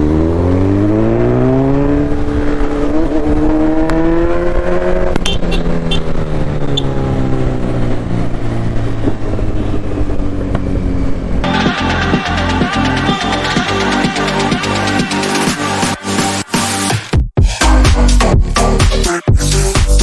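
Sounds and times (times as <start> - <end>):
motorcycle engine accelerating: 0.0 - 16.4.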